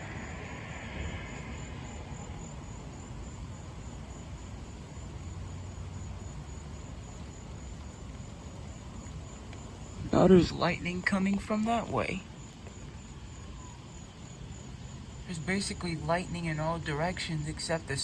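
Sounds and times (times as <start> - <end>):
insects chirping: 0.0 - 18.0
low outdoor rumble: 0.0 - 18.0.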